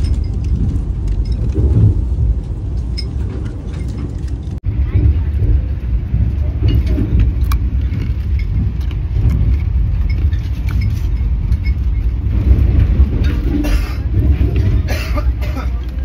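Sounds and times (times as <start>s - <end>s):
clicks and rattles: 0.0s - 16.0s
train rumble inside coach: 0.0s - 16.0s.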